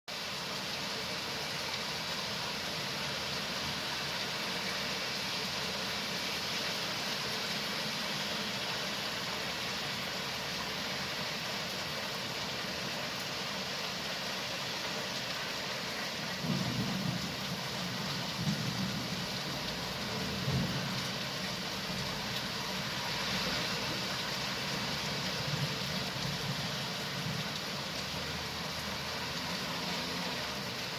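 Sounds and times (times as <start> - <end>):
falling rain hiss: 0.1 - 30.9.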